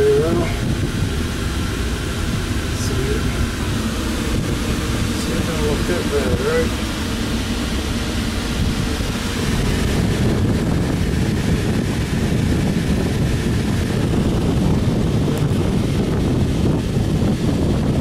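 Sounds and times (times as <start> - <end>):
air handler blower rushing: 0.0 - 18.0.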